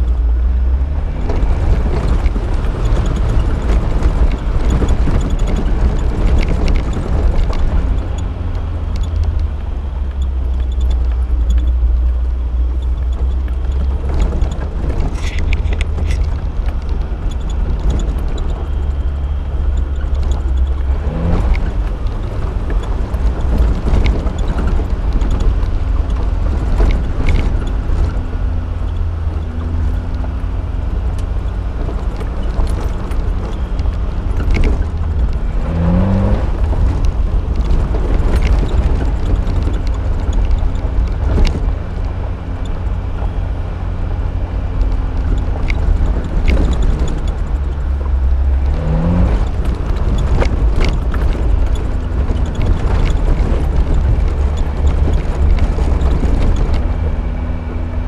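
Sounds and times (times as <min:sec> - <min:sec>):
body knocks and rattles: 0:00.0 - 0:58.0
car engine revving: 0:00.0 - 0:58.0.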